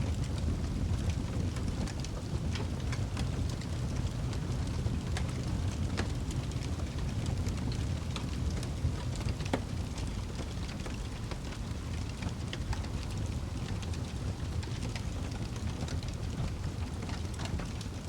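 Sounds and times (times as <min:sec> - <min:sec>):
low rumble of flames: 0:00.0 - 0:18.0
fire crackles and pops: 0:00.1 - 0:18.0.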